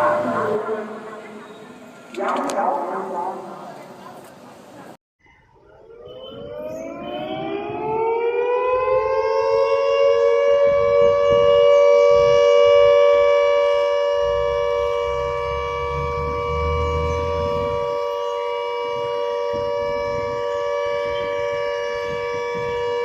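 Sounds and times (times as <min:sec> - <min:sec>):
civil defense siren winding up: 0:00.0 - 0:03.0, 0:05.6 - 0:23.0.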